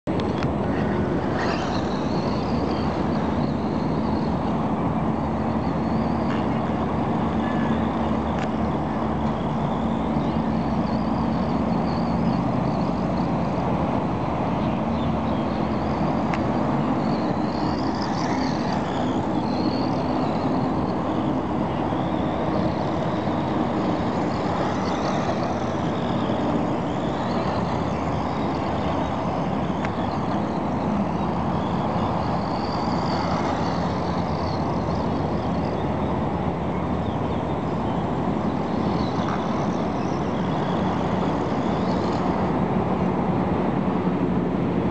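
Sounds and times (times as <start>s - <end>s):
rc car motor whine: 0.1s - 44.9s.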